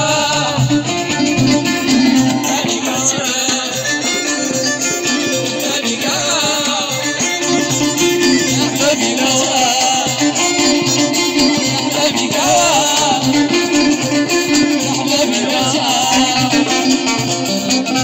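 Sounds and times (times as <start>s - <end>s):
electric guitar: 0.0s - 18.0s
keyboard: 0.0s - 18.0s
violin: 0.0s - 18.0s.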